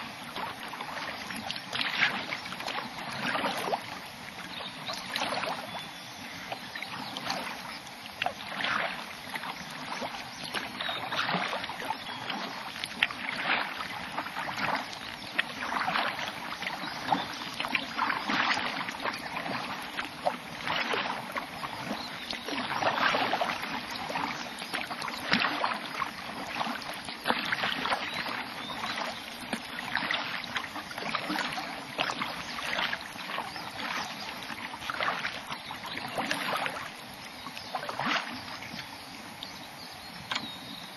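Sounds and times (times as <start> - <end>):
kayak paddle splashing in water: 0.0 - 39.1.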